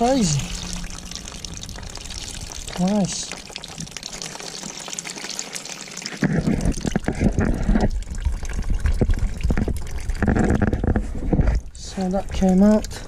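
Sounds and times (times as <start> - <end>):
liquid pouring into plastic basin: 0.0 - 12.9.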